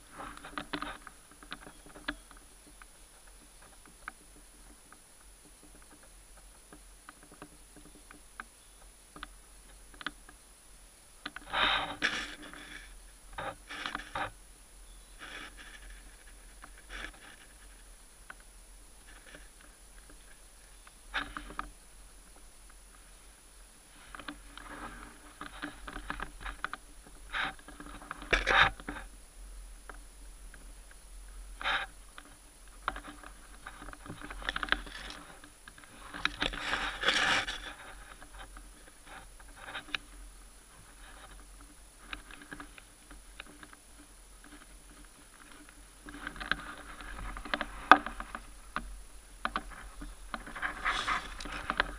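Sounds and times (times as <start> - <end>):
rustling of dry leaves: 0.0 - 51.9.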